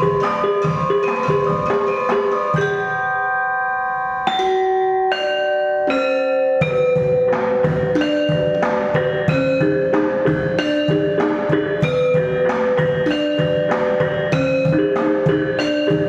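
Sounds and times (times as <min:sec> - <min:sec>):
pitched percussion notes: 0:00.0 - 0:16.0.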